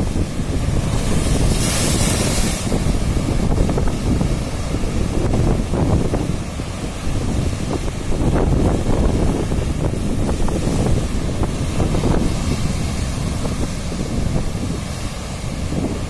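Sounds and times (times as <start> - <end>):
sea surf breaking on shore: 0.0 - 16.0
wind buffeting microphone: 0.0 - 16.0.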